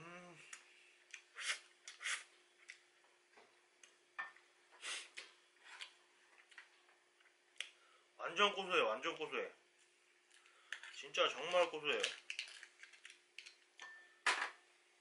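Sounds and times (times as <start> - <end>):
faint hum: 0.0 - 12.2.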